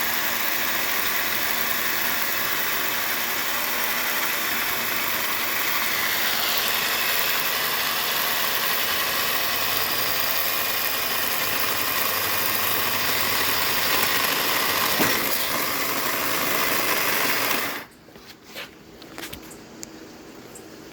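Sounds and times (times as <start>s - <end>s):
engine running: 0.0s - 17.9s.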